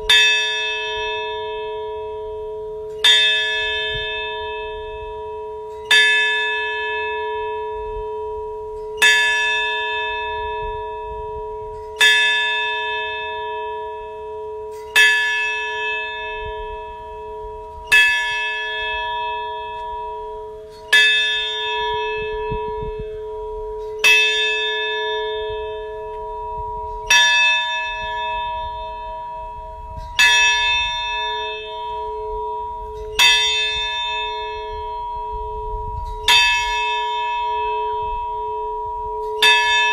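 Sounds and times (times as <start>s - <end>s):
large bell tolling: 0.0s - 39.9s.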